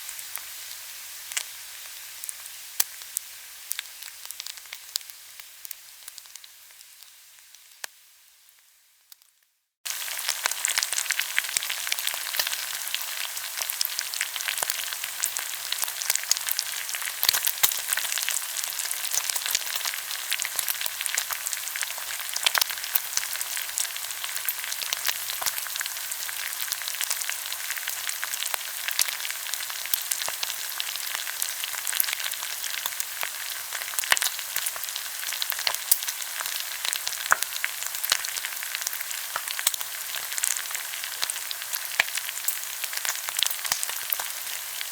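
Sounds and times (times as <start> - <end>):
pork sizzling on a grill: 0.0 - 44.9.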